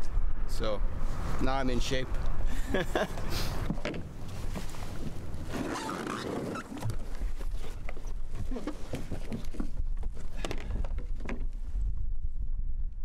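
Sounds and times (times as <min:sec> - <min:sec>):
wind rumble on microphone: 0:00.0 - 0:02.7, 0:03.5 - 0:13.0.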